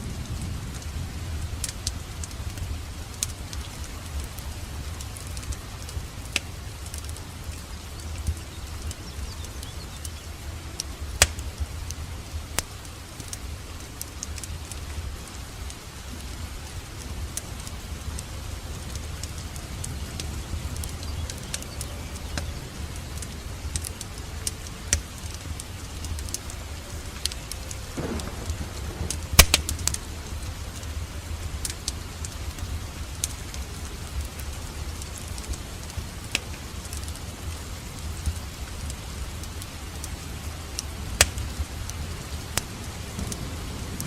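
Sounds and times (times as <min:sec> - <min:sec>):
wood fire crackling: 0:00.0 - 0:44.0
sharp pops from fire: 0:01.6 - 0:14.8, 0:18.9 - 0:43.4.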